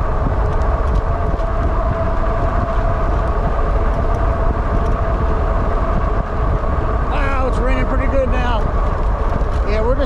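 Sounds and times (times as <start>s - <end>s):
faint steady whine: 0.0s - 10.0s
road noise low rumble: 0.0s - 10.0s
wind buffeting microphone: 0.0s - 10.0s.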